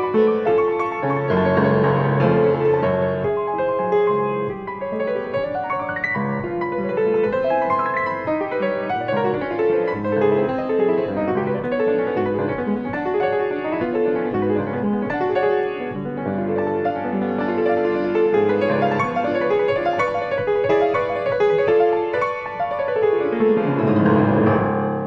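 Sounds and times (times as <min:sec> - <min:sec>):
grand piano classical music: 0:00.0 - 0:25.0.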